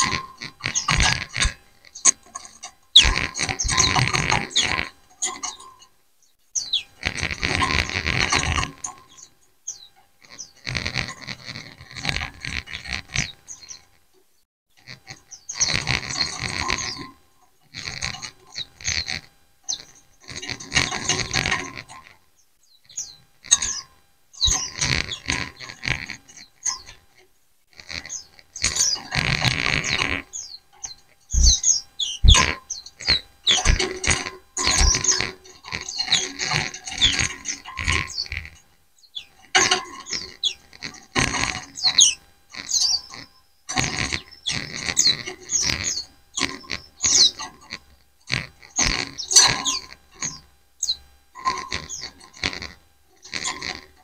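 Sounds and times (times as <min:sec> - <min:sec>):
flock of birds chirping: 0:00.0 - 0:54.0.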